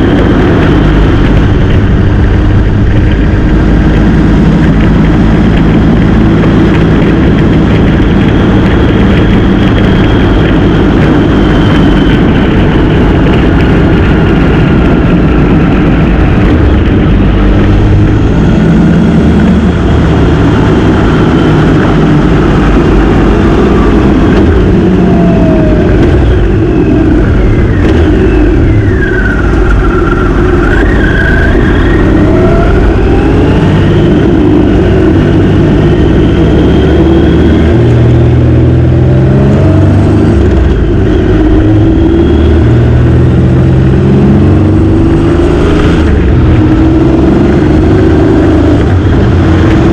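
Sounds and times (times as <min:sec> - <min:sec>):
motorcycle engine running: 0:00.0 - 0:49.9
road noise rushing: 0:00.0 - 0:49.9.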